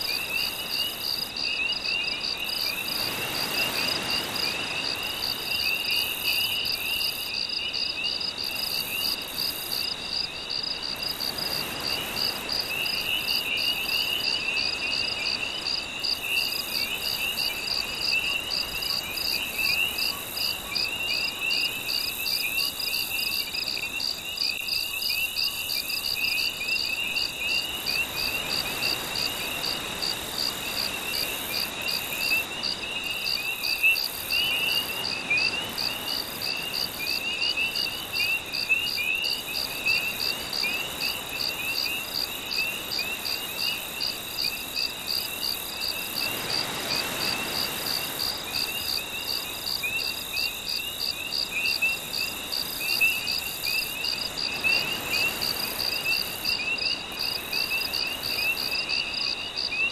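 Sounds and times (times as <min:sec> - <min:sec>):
crickets chirping: 0:00.0 - 0:59.9
low rapid insect trill: 0:00.0 - 0:59.9.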